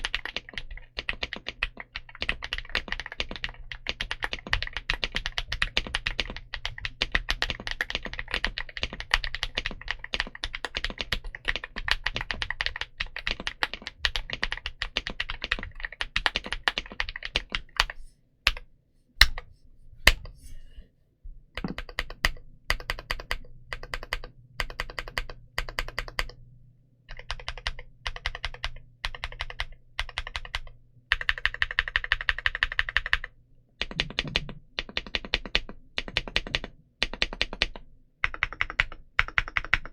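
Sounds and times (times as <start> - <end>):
mechanical keyboard typing: 0.0 - 18.6, 21.6 - 26.4, 27.1 - 39.9.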